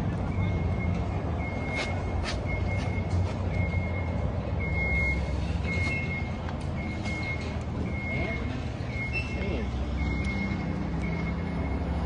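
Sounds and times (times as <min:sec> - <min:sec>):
engine rumbling: 0:00.0 - 0:12.0
backup alarm beeping: 0:00.1 - 0:12.0.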